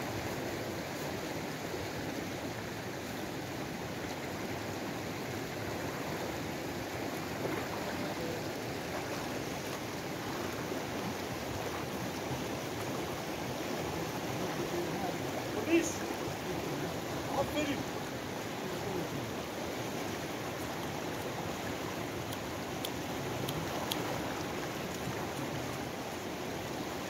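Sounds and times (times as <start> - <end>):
river rushing: 0.0 - 27.0.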